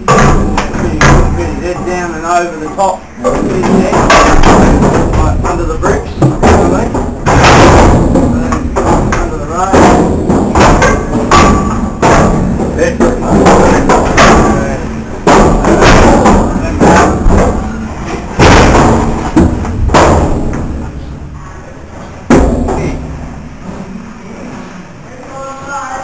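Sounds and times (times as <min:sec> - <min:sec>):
cow knocking against metal rails: 0:00.0 - 0:21.0, 0:22.3 - 0:23.3.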